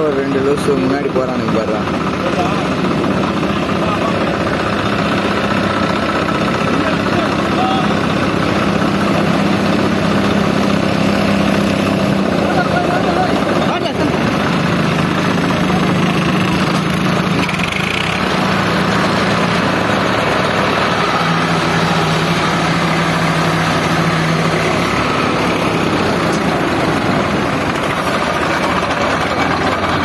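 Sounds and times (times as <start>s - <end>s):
engine low hum: 0.0s - 30.0s.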